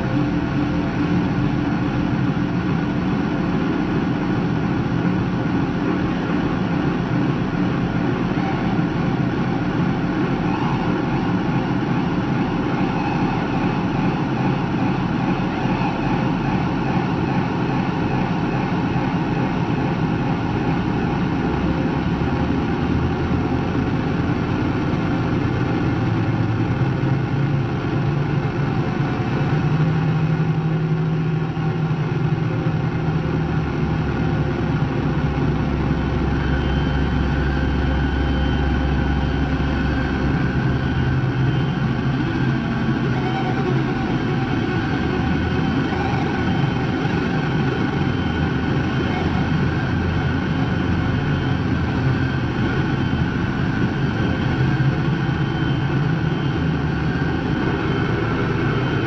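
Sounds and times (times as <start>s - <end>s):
distorted guitar noise drone: 0.0s - 59.0s
low hum: 0.0s - 59.0s.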